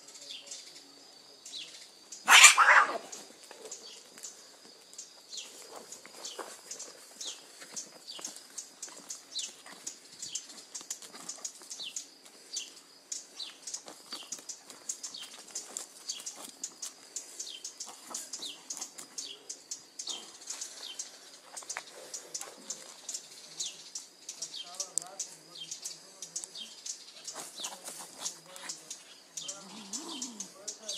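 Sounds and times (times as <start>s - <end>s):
songbirds chirping: 0.0s - 30.9s
cats scuffling in dirt: 2.2s - 25.6s, 26.5s - 30.9s.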